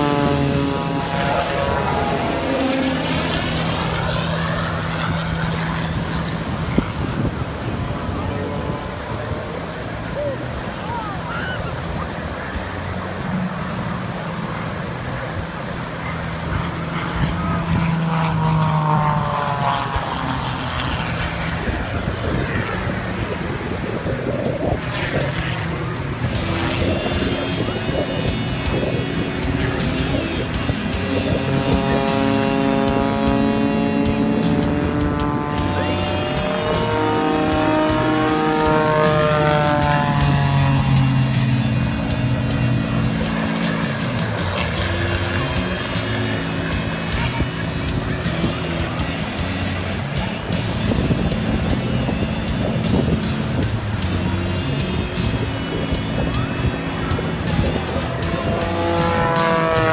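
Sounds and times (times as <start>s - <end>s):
propeller plane engine humming: 0.0s - 59.9s.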